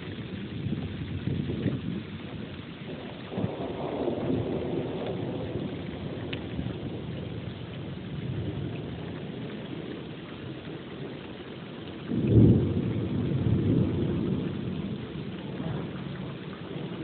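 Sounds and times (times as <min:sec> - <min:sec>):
rumble of thunder: 0:00.0 - 0:17.0
steady rain: 0:00.0 - 0:17.0.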